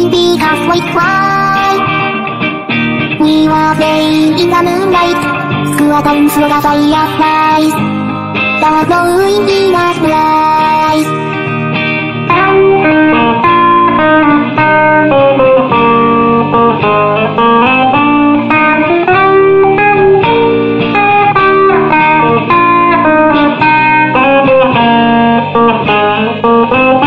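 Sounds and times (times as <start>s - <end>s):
instrumental guitar music: 0.0s - 27.0s.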